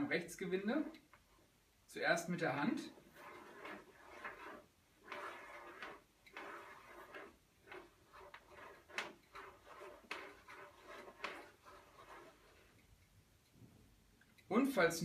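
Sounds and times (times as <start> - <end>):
faint handling and rubbing: 0.0 - 14.0.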